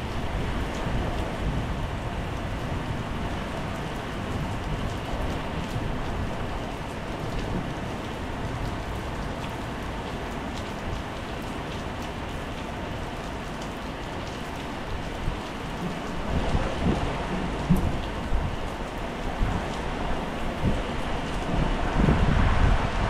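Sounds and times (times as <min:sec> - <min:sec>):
heavy rain on tiled patio: 0:00.0 - 0:23.0.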